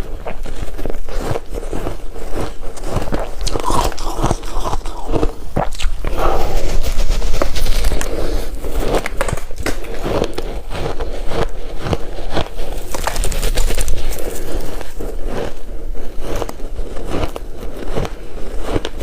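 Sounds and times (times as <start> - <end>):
person crunching ice: 0.0 - 19.0.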